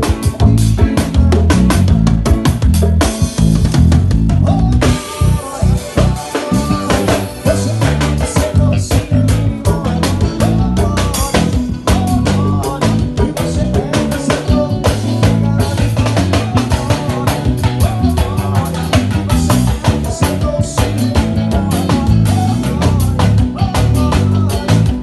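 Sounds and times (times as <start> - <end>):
drum kit beat: 0.0 - 25.0
live band playing: 0.0 - 25.0.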